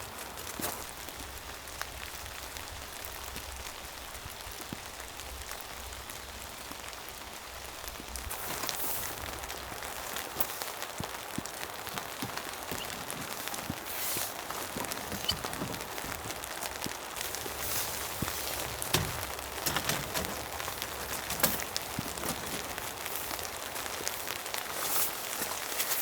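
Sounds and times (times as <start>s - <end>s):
raindrops ticking: 0.0s - 26.0s
steady rain falling: 0.0s - 26.0s.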